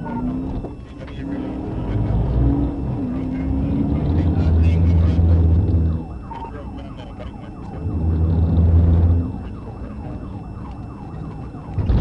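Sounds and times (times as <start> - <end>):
deep steady drone: 0.0 - 12.0
police siren yelp: 0.0 - 12.0.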